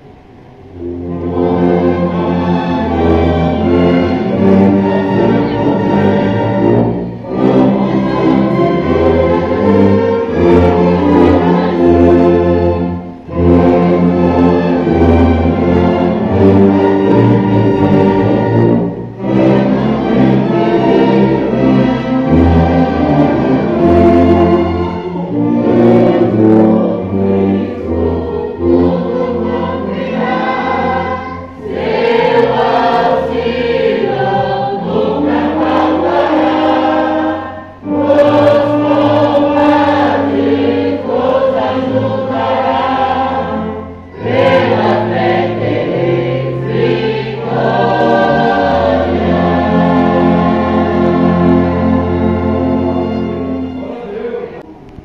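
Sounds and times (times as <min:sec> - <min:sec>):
tubas playing bass line: 0:00.0 - 0:54.2
choir singing a hymn: 0:00.0 - 0:54.8
church orchestra: 0:00.0 - 0:55.0.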